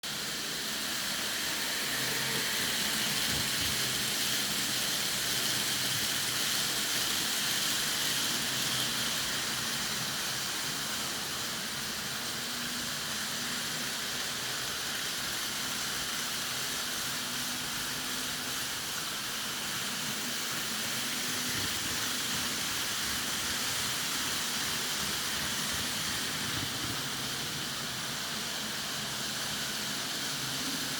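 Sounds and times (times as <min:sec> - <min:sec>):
train running with rushing hiss: 0:00.0 - 0:30.9.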